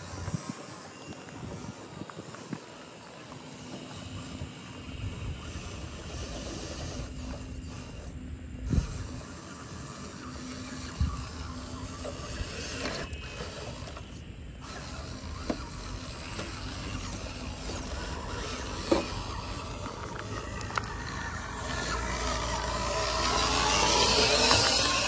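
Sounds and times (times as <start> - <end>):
truck running noise: 0.0 - 25.0.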